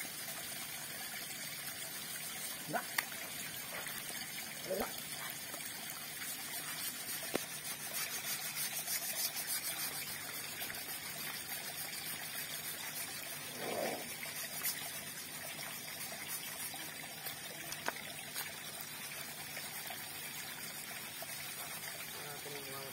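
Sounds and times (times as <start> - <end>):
water trickling over concrete: 0.0 - 22.9.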